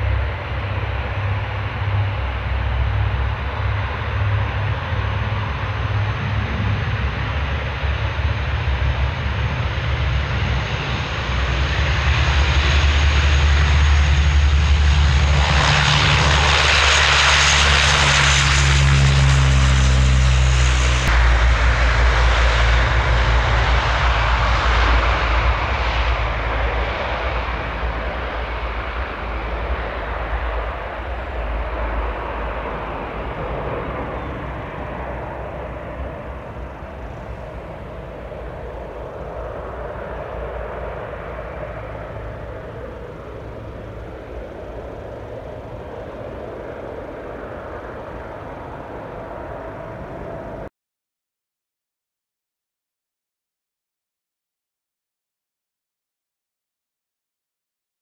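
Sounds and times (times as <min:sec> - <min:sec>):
turboprop aircraft taking off: 0:00.0 - 0:50.7.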